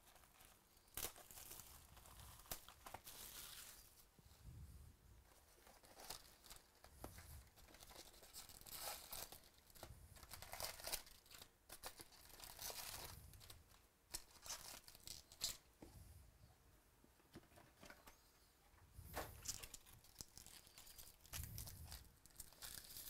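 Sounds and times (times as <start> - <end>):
wrapping rustling: 0.0 - 4.1, 5.2 - 15.7, 19.1 - 23.0.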